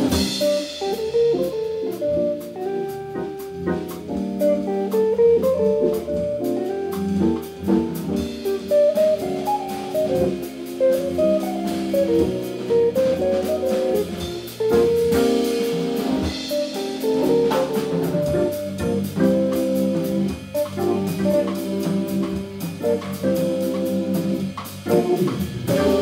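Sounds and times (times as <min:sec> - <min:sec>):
drum kit cymbal beat: 0:00.0 - 0:26.0
electric guitar: 0:00.0 - 0:26.0
organ playing: 0:00.0 - 0:26.0.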